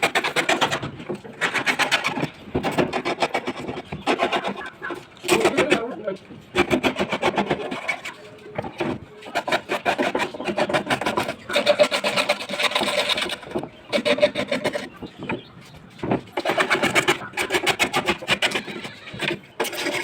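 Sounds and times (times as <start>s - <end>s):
tool rasping on wood: 0.0s - 15.4s, 16.1s - 20.0s.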